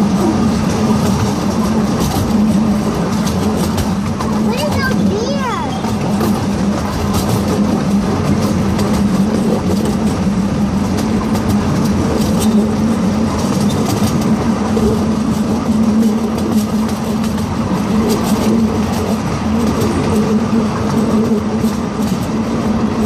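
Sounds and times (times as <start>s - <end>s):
constant hum: 0.0s - 23.0s
wheels rumbling on rails: 0.0s - 23.0s.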